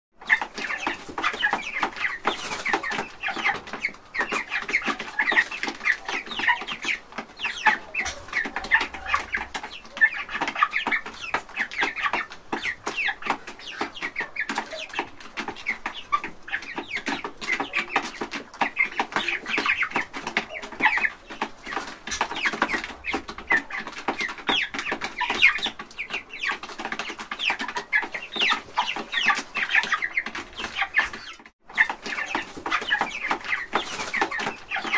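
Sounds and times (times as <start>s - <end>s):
young chickens calling: 0.2s - 34.9s.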